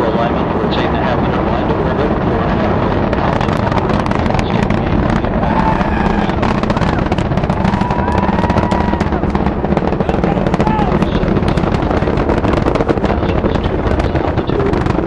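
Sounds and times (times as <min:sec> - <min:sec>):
rocket roar with crackling: 0:00.0 - 0:15.0.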